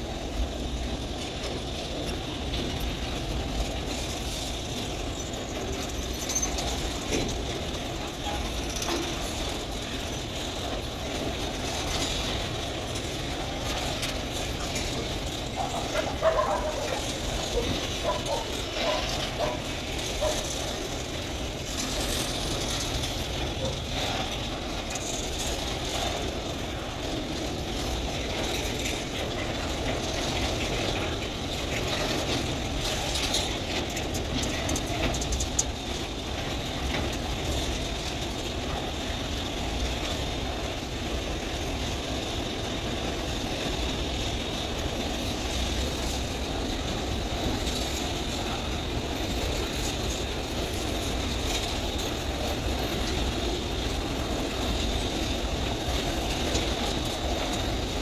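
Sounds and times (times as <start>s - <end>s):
rattle and clacks: 0.0s - 58.0s
train wheels rumbling on rails: 0.0s - 58.0s.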